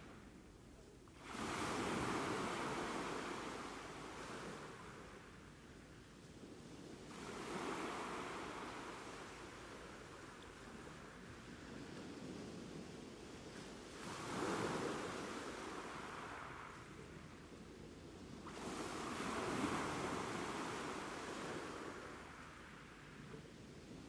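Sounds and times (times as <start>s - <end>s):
ocean waves crashing on shore: 1.2s - 5.9s, 7.0s - 12.2s, 12.8s - 24.0s.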